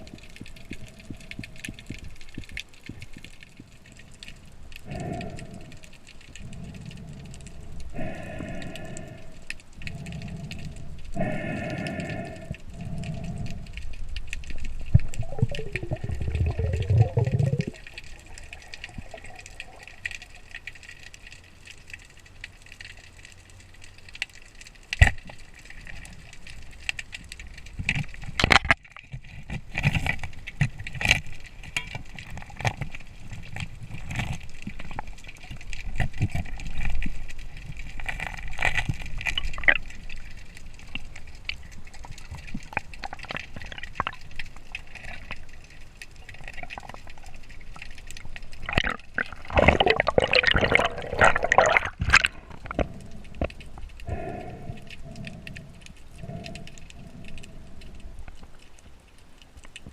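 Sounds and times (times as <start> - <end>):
underwater bubbling rumble: 0.0 - 59.9
water sloshing and gurgling: 0.0 - 59.9.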